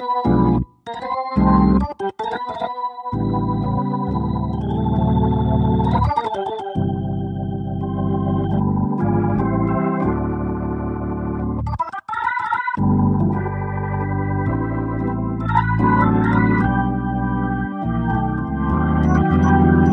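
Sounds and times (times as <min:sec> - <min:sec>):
organ music: 0:00.0 - 0:19.9.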